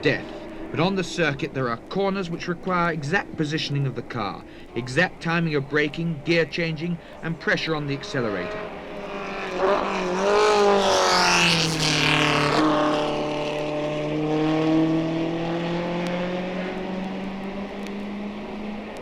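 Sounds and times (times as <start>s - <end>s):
racing car engine passing: 0.0s - 19.0s.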